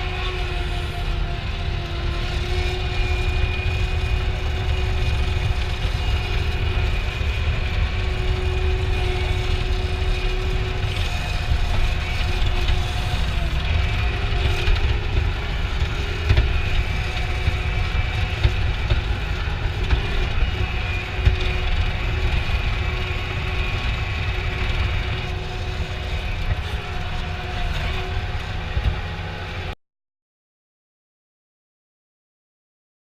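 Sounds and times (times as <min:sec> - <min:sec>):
vehicle engine rumbling: 0:00.0 - 0:29.8.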